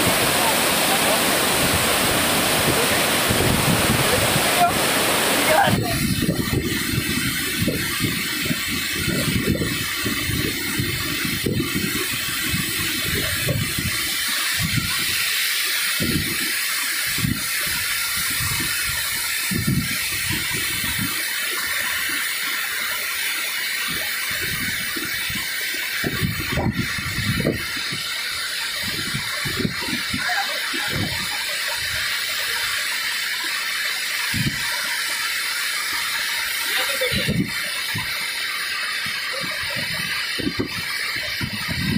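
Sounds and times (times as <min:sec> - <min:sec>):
river water rushing over weir: 0:00.0 - 0:41.9.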